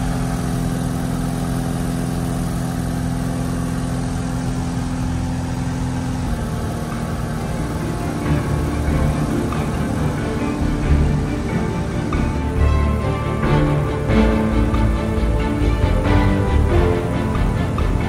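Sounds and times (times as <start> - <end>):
light aircraft engine droning: 0.0 - 18.0.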